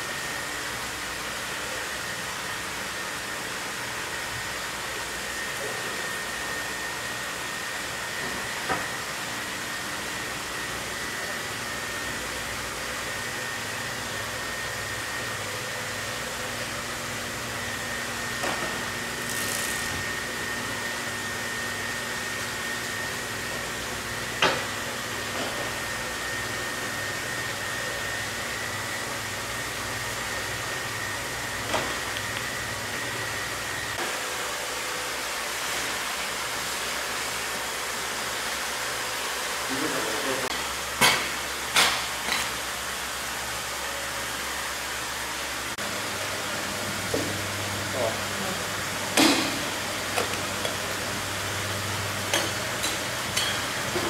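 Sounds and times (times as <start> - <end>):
machine hum and hiss: 0.0 - 54.0.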